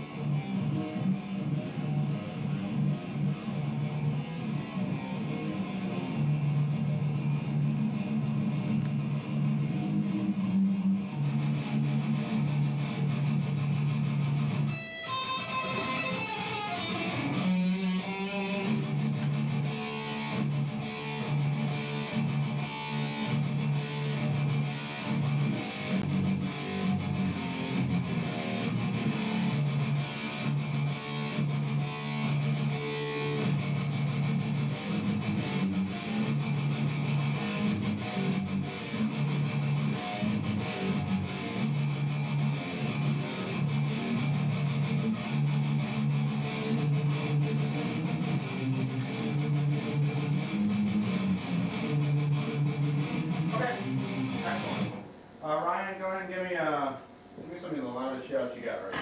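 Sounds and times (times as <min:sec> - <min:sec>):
electric guitar riff: 0:00.0 - 0:55.2.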